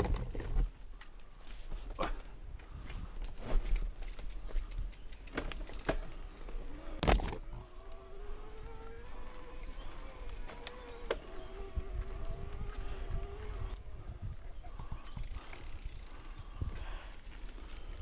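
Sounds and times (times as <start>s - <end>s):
bike rattling over bumps: 0.0s - 18.0s.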